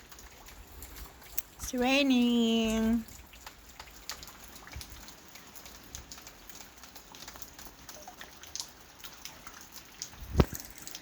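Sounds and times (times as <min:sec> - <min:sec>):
raindrops tapping on a surface: 0:00.0 - 0:11.0.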